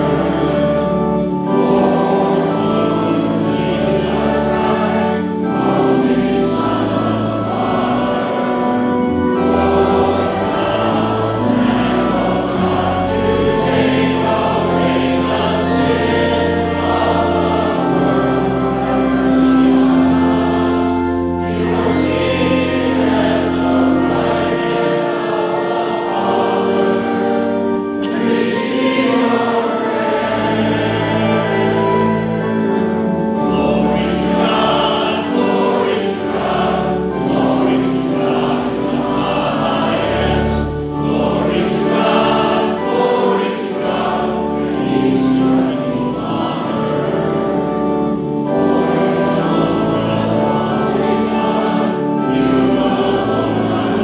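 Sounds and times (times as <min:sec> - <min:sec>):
congregation singing a hymn: 0:00.0 - 0:54.0
sustained instrumental accompaniment: 0:00.0 - 0:54.0.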